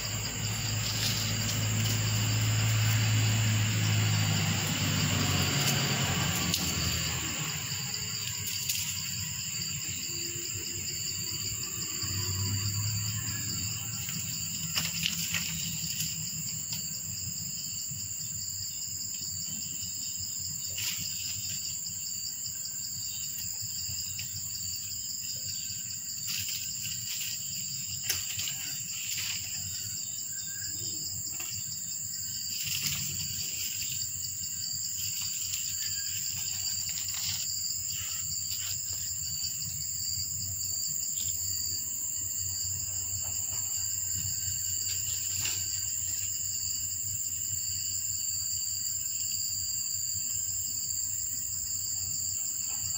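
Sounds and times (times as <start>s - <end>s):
high-pitched insect chorus: 0.0s - 52.9s.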